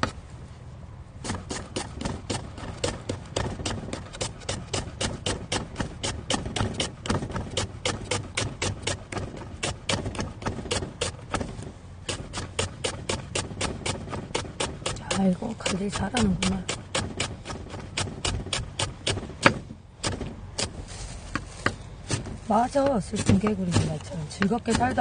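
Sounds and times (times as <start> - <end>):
knife chopping on wooden board: 1.2 - 11.5, 12.1 - 20.7, 21.4 - 25.0.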